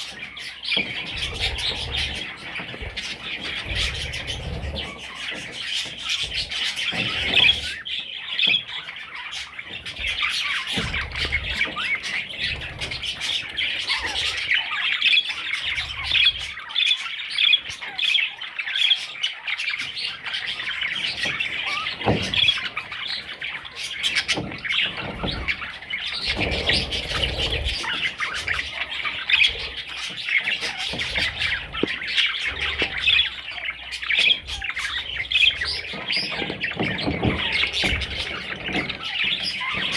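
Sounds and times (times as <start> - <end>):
parrot chicks chirping and squawking: 0.0 - 39.9.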